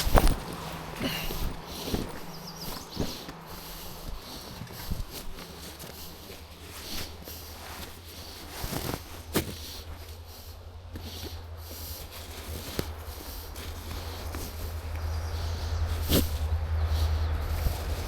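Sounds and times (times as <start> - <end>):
footsteps on a trail: 0.0 - 18.0
low steady rumble: 0.0 - 18.0
sharp snaps and crunches: 0.0 - 18.0.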